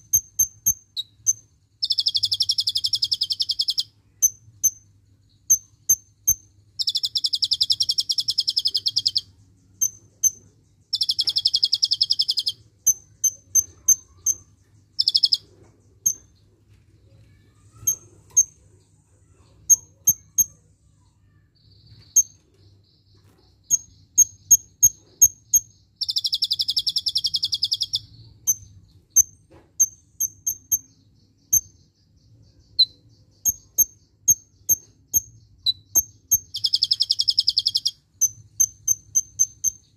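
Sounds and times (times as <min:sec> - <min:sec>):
bird chipping: 0:00.0 - 0:16.4, 0:17.3 - 0:39.9
bird buzzy trills: 0:00.0 - 0:16.5, 0:17.1 - 0:39.9.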